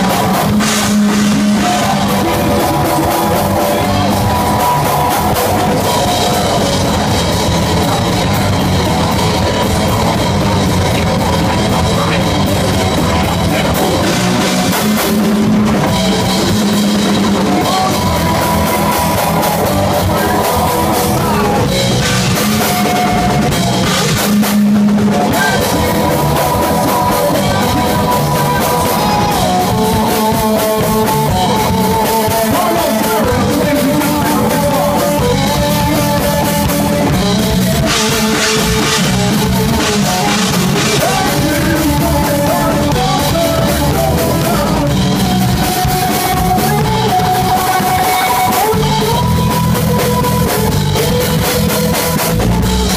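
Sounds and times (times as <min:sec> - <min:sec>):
drums: 0:00.0 - 0:52.9
guitar: 0:00.0 - 0:52.9
rock band playing live: 0:00.0 - 0:52.9.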